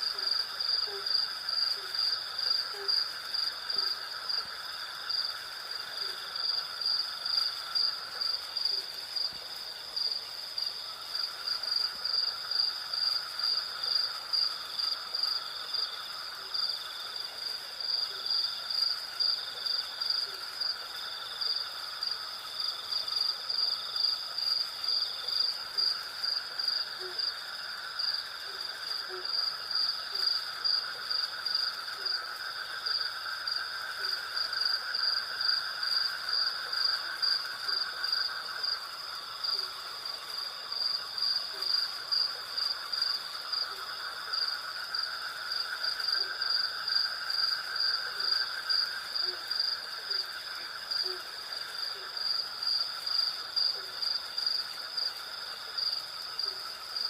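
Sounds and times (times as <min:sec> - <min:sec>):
cricket chirping: 0:00.0 - 0:57.0
insect buzz: 0:00.0 - 0:57.0.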